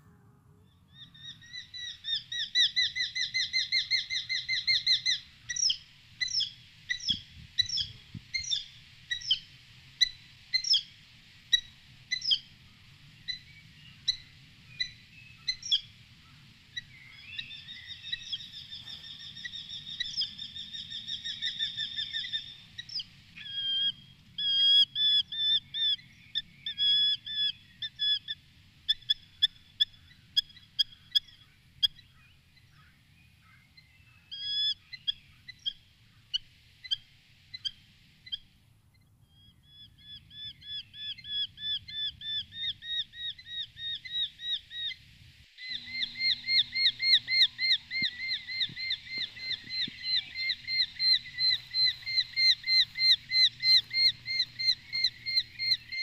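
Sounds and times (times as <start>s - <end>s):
bird calling with trills: 0.8s - 10.9s, 13.2s - 38.5s, 45.6s - 56.0s.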